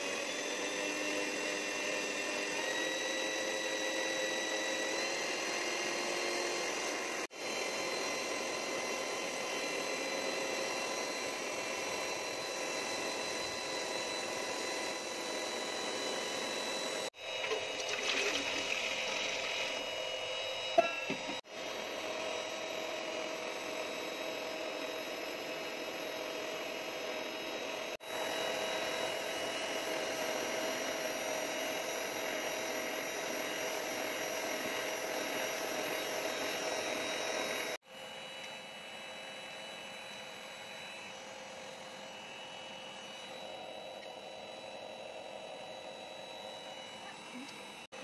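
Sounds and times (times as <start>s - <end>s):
electric hand mixer running: 0.0s - 48.0s.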